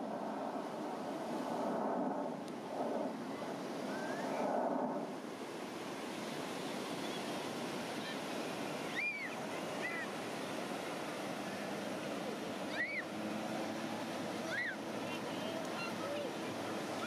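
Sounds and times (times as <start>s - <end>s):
ocean surf on beach: 0.0s - 17.0s
wind on microphone: 0.0s - 17.0s.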